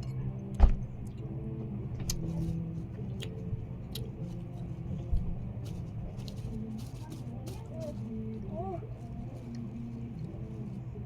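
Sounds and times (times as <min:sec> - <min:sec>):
light clicks and taps eating: 0:00.0 - 0:11.0
low background hum: 0:00.0 - 0:11.0.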